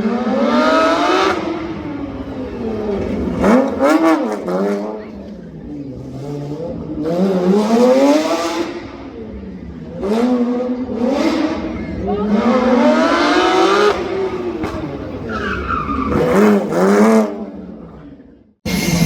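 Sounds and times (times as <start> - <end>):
rally car engine revving: 0.0 - 18.1.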